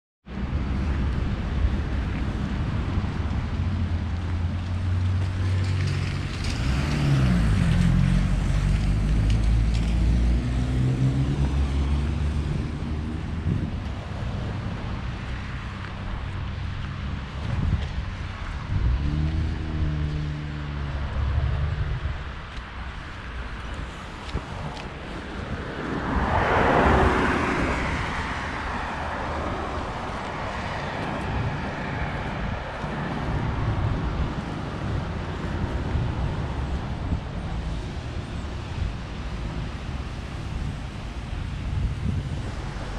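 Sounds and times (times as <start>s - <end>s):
low street rumble: 0.3s - 42.9s
car engines running: 0.4s - 42.9s.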